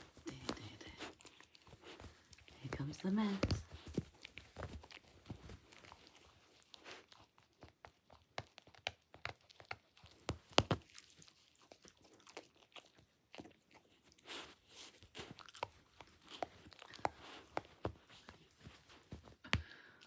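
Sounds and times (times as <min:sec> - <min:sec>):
dog chewing toy: 0:00.0 - 0:19.4.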